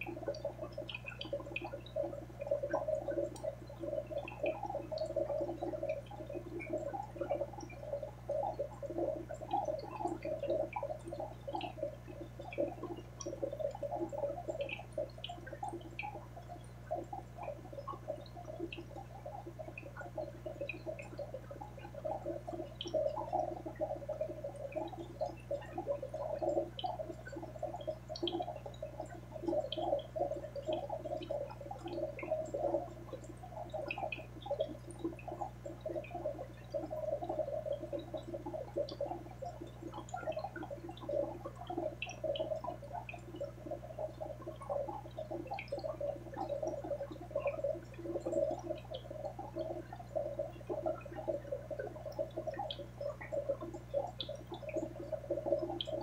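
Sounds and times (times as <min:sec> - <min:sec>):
aquarium water bubbling: 0:00.0 - 0:56.0.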